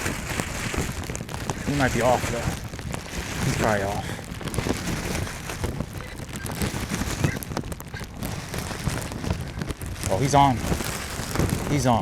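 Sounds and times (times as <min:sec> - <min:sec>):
rain falling: 0:00.0 - 0:12.0
wind rumble on microphone: 0:00.0 - 0:12.0.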